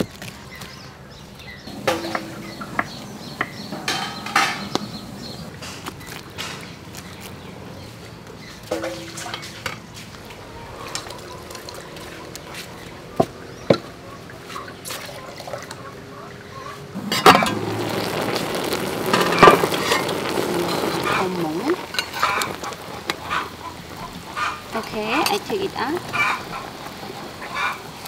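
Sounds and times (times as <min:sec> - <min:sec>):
water boiling and bubbling: 0:01.6 - 0:28.0.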